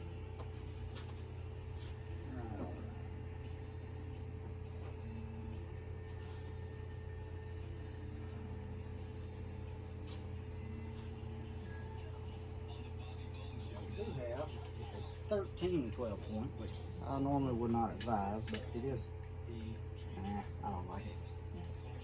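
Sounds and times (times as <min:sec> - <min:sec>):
faint background music: 0:00.0 - 0:22.0
low machine hum: 0:00.0 - 0:22.0.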